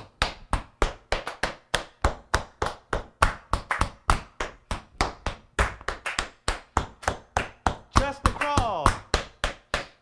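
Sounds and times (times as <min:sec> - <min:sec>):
tap shoes on wooden floor: 0:00.2 - 0:10.0.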